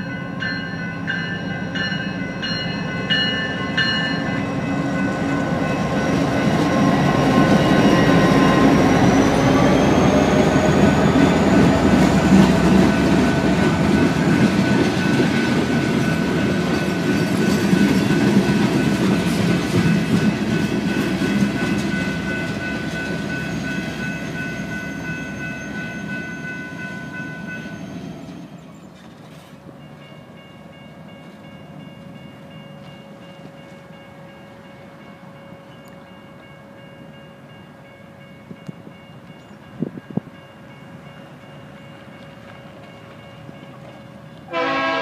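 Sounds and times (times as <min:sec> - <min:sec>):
freight train wheels rumbling on rail: 0:00.0 - 0:45.0
railroad crossing bell ringing: 0:00.0 - 0:45.0.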